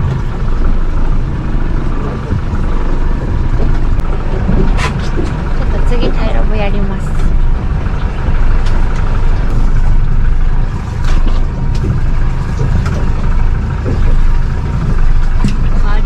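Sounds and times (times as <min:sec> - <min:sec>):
boat engine rumble: 0:00.0 - 0:16.0
water noise: 0:00.0 - 0:16.0
wind: 0:00.0 - 0:16.0.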